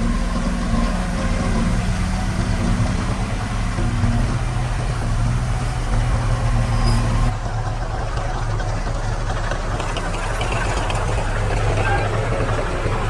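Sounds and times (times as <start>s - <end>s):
heavy diesel engine running: 0.0s - 13.0s
hiss above engine: 0.0s - 13.0s.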